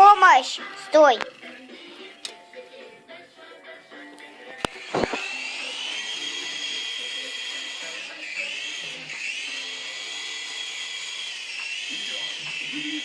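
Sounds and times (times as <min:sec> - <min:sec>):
toy helicopter motors whining: 0:00.0 - 0:02.3, 0:04.5 - 0:13.0.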